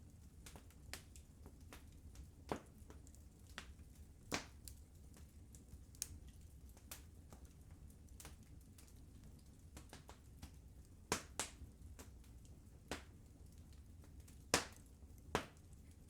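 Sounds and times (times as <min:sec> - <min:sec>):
firewood crackling and popping: 0:00.1 - 0:16.0.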